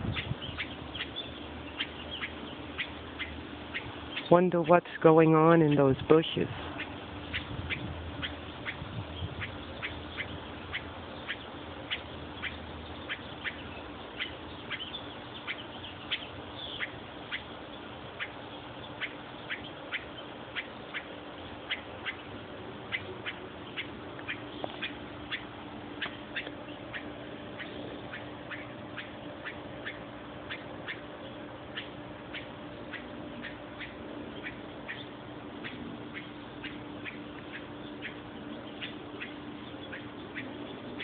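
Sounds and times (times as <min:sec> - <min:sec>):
bird squawking: 0:00.0 - 0:41.0
steady low hum: 0:00.0 - 0:41.0.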